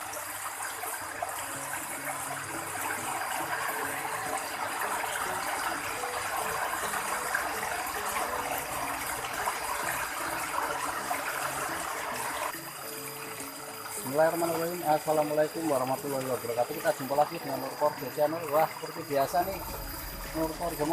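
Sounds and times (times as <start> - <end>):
faint melody: 0.0 - 20.9
flowing water rushing: 0.0 - 20.9.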